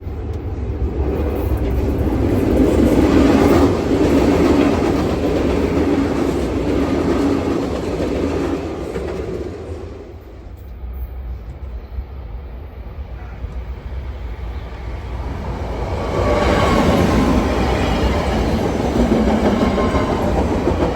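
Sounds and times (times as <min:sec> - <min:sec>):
train running on rails: 0:00.0 - 0:20.9.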